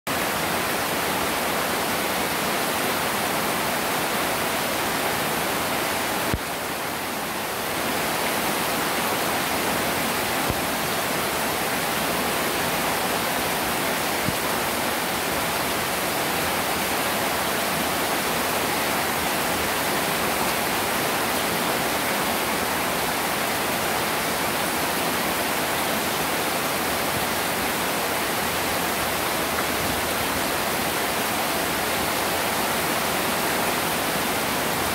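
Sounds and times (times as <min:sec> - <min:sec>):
heavy rain on water: 0:00.1 - 0:34.9.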